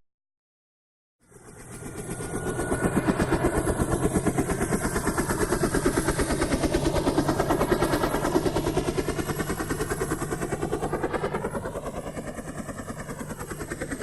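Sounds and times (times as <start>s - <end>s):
helicopter rotor chopping: 1.2s - 14.0s.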